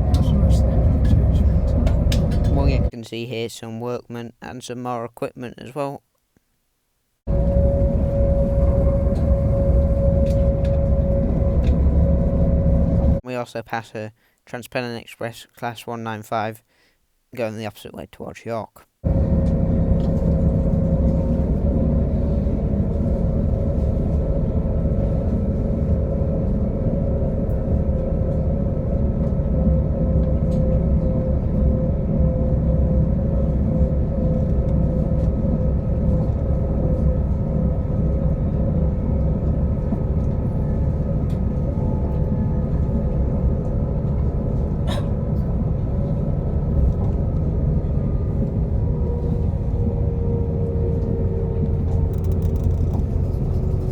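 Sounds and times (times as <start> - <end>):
train whine: 0.0 - 2.9, 7.3 - 13.2, 19.0 - 53.9
passenger train rumbling: 0.0 - 3.0, 7.3 - 13.2, 19.0 - 53.9.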